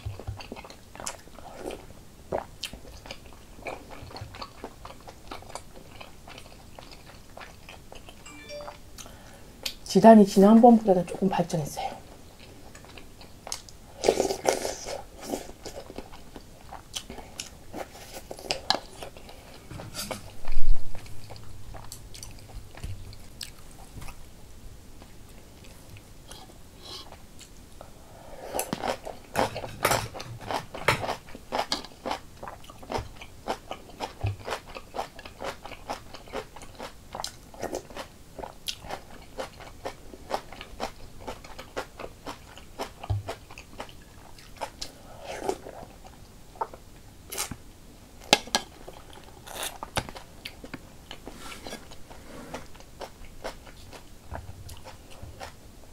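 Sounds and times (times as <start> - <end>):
person chewing: 0.1 - 9.8, 12.4 - 20.4, 21.0 - 24.2, 28.4 - 47.6, 48.4 - 55.6.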